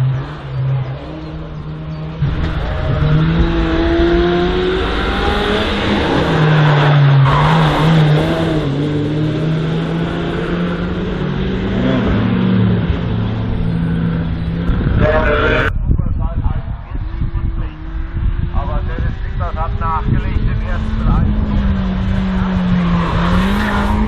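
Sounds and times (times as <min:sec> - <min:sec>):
race car engine accelerating: 0:00.0 - 0:15.7, 0:17.2 - 0:24.0.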